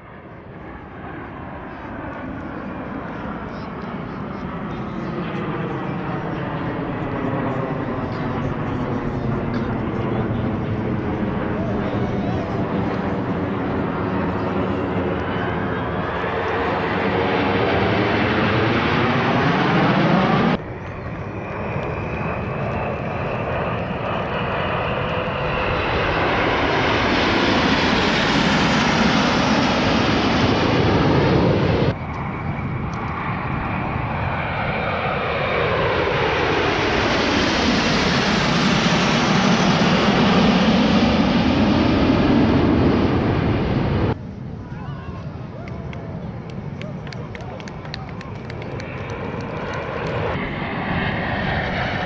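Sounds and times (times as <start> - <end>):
jet aircraft roar passing overhead: 0.0 - 52.0.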